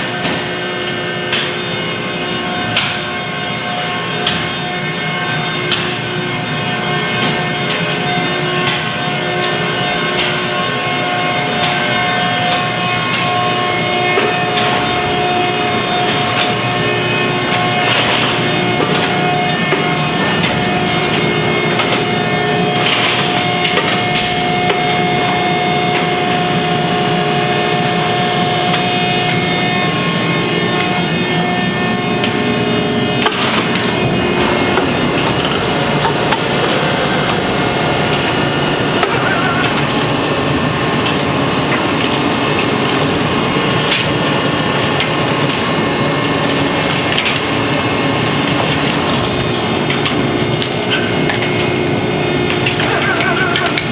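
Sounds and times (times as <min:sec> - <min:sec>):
baler machine whine: 0:00.0 - 0:53.9.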